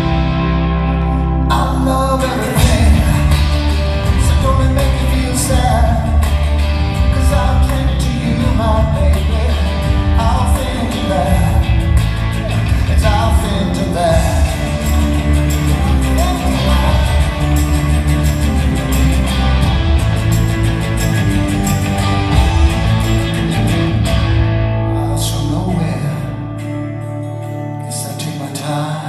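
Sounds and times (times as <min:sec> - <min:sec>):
rock and roll song with vocals: 0:00.0 - 0:29.0.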